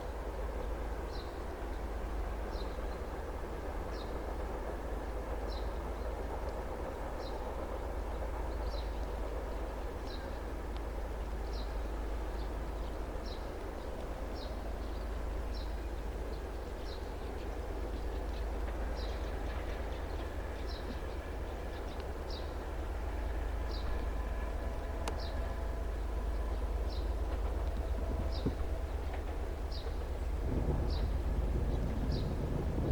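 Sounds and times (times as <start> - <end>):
steady low rumble: 3.2 - 32.9.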